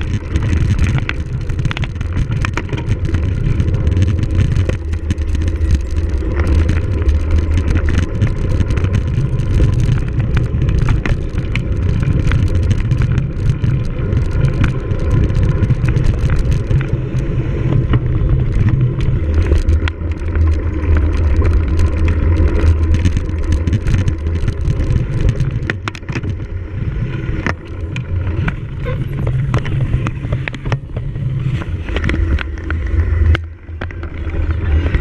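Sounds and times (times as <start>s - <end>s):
bike rattling over bumps: 0.0s - 35.0s
wind and tyres rumbling: 0.0s - 35.0s.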